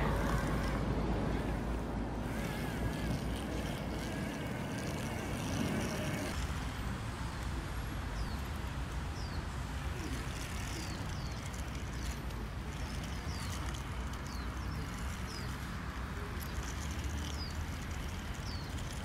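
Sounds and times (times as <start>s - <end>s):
faint wavering motor whine: 0.0s - 19.0s.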